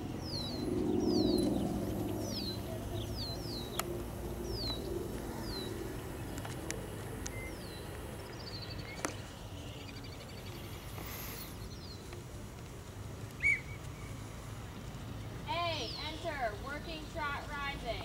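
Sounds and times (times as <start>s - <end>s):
songbirds singing: 0.0s - 12.4s, 13.4s - 14.1s, 15.6s - 18.0s
steady low rumble: 0.0s - 18.0s.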